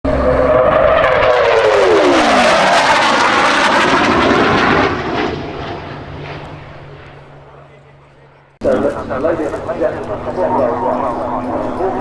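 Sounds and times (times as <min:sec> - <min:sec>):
piston aircraft flying past: 0:00.1 - 0:12.0.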